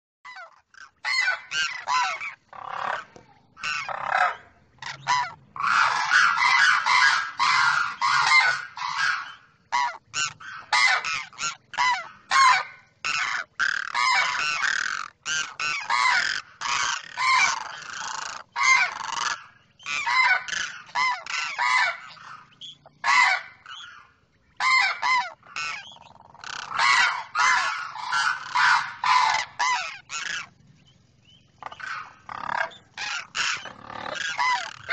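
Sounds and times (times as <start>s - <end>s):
cranes honking calls: 0.3s - 23.6s, 24.6s - 30.6s, 31.6s - 34.9s.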